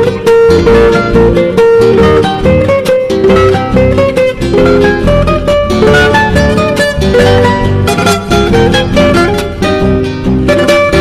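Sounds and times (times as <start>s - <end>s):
plucked guitar melody: 0.0s - 11.0s
steady bass: 0.0s - 11.0s.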